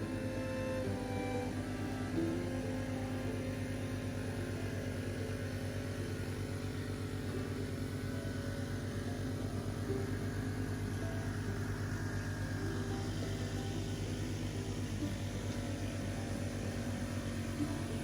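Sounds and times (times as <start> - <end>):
small engine running steadily: 0.0 - 18.0.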